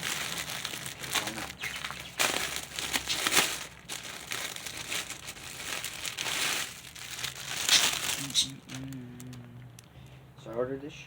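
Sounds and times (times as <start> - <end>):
packaging crackles: 0.0 - 9.9
packaging crinkling and rustling: 0.0 - 9.9.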